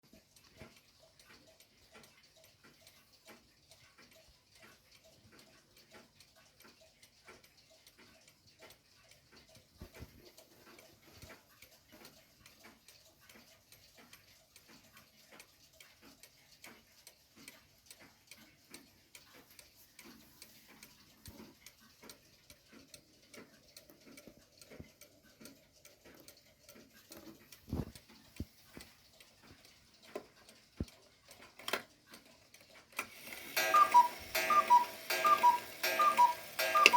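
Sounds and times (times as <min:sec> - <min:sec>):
clock ticking: 0:00.0 - 0:36.9.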